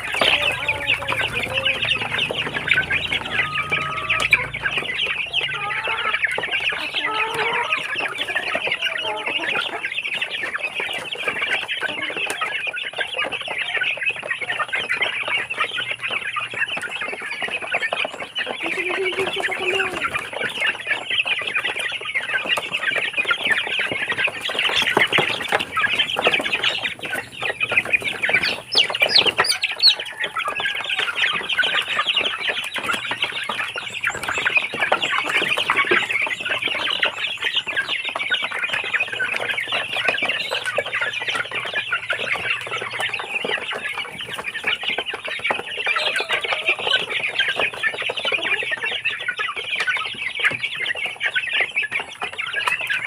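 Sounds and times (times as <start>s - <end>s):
chicks peeping: 0.0s - 53.0s
hens clucking: 0.0s - 53.0s.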